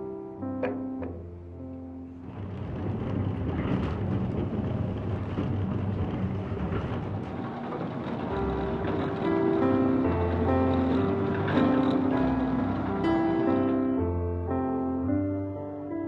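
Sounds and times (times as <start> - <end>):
mill machinery rumbling: 0.6 - 15.0.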